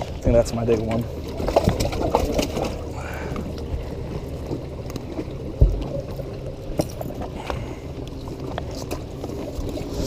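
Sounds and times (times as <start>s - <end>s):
low rumble of boats: 0.0s - 10.0s.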